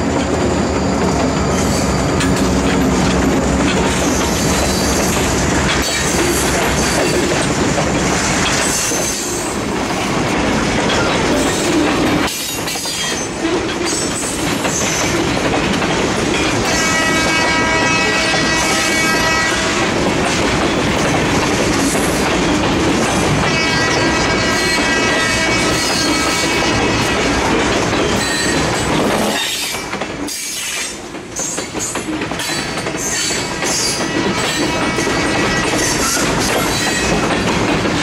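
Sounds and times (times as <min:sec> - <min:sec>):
train cars rumbling and clattering: 0:00.0 - 0:38.0.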